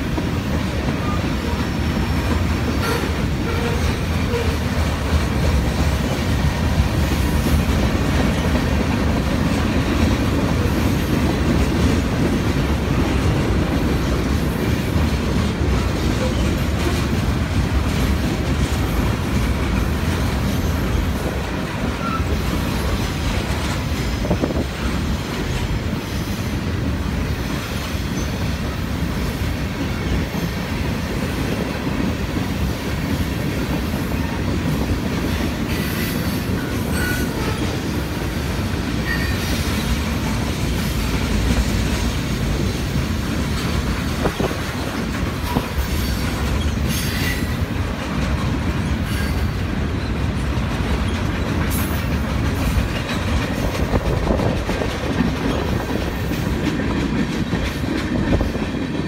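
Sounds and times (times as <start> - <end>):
clacks over rail joints: 0.0 - 59.0
train wheels rumbling on rails: 0.0 - 59.0.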